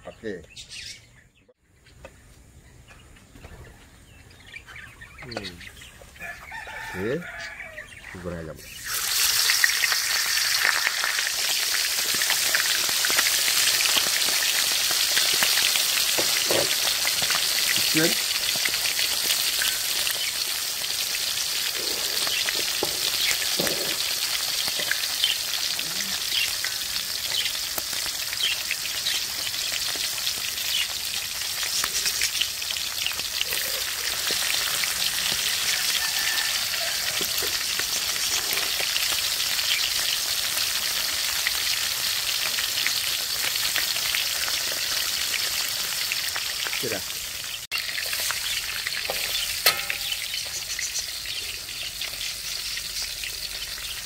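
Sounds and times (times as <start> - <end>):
meat deep-frying in hot oil: 8.6 - 54.0.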